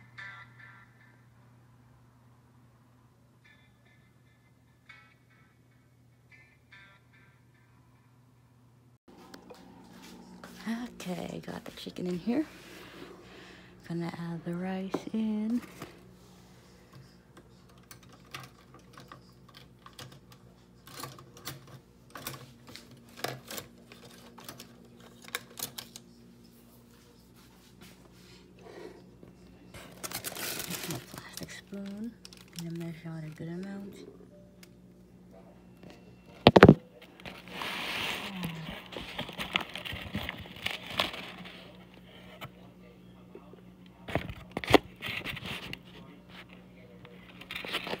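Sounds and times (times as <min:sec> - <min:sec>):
steady low hum: 0:07.4 - 0:48.0.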